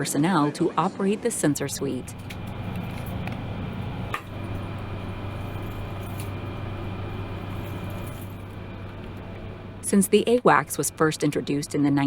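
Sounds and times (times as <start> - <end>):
low mechanical hum: 1.2 - 12.0.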